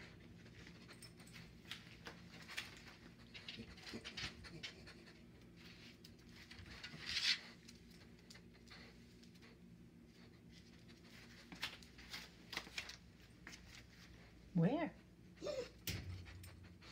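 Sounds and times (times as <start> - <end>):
dog sniffing and panting: 0.0 - 12.5, 13.3 - 16.9
paws clicking on floor: 0.0 - 14.4.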